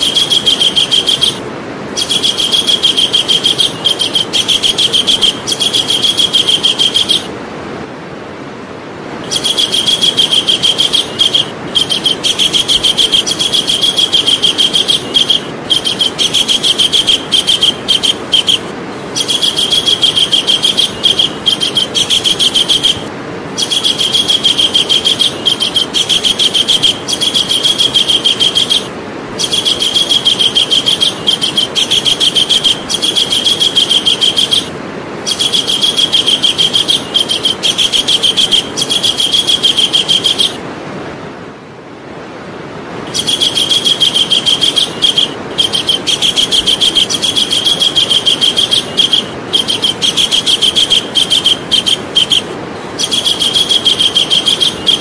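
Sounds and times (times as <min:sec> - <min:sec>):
kingfisher rattling call: 0:00.0 - 0:07.3, 0:09.2 - 0:40.6, 0:43.1 - 0:55.0
steady hiss: 0:00.0 - 0:55.0.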